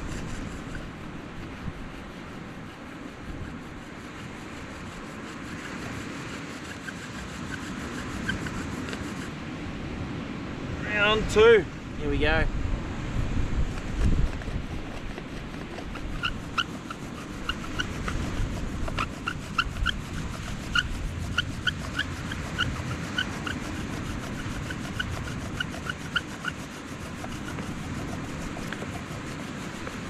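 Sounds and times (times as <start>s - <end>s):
bow drill spindle squeaking: 0.0s - 9.3s, 14.2s - 30.0s.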